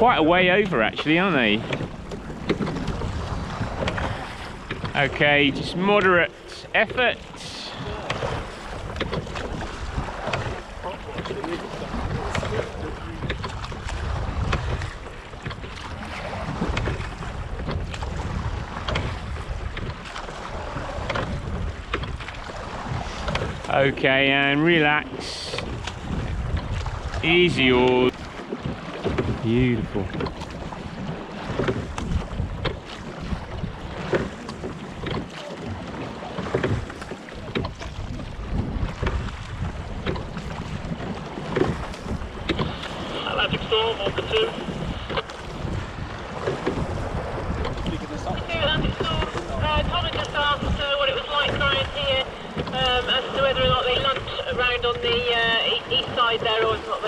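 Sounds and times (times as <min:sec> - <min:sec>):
oars knocking and splashing: 0:00.0 - 0:57.0
water noise: 0:00.0 - 0:57.0
wind buffeting microphone: 0:00.0 - 0:57.0.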